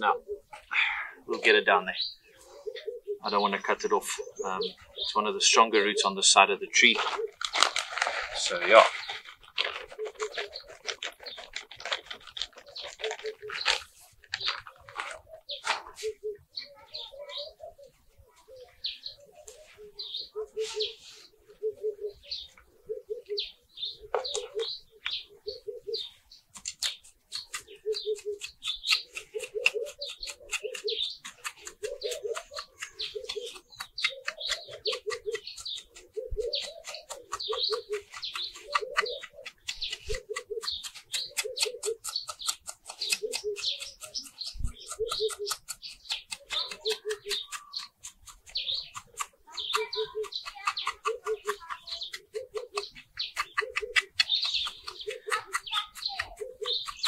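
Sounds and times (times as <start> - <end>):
fast ticking bird chatter: 0.0 - 19.3, 22.0 - 57.0
higher bird chirps: 0.0 - 57.0
low bird call: 8.2 - 26.2, 26.8 - 57.0.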